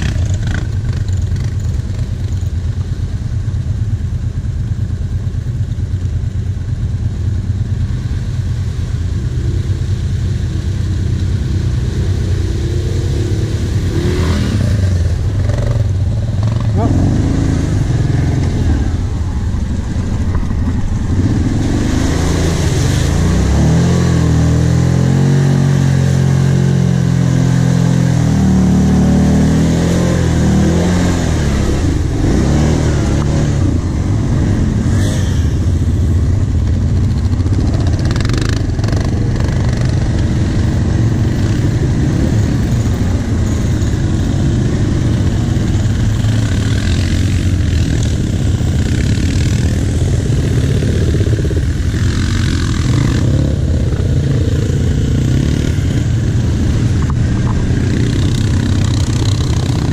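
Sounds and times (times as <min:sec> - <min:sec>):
atv engine revving: 0:00.0 - 0:03.0, 0:06.9 - 0:59.9.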